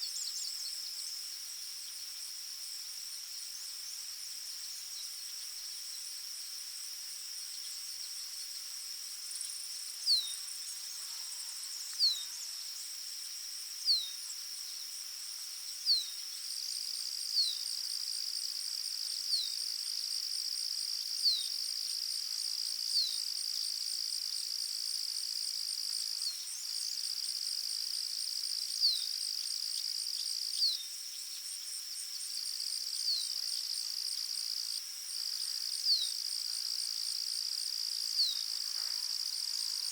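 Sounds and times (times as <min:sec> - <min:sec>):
high insect trill: 0:00.0 - 0:39.9
pulsing insect chirp: 0:00.0 - 0:39.9.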